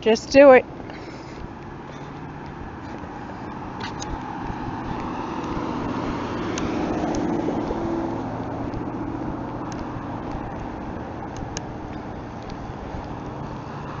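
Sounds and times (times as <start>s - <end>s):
car passing: 0.0s - 14.0s.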